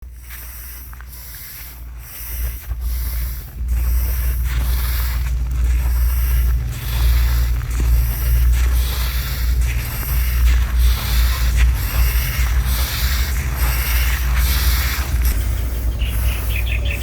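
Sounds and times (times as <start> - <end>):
low rumble: 0.0 - 17.0
rice grains being swept: 0.0 - 17.0.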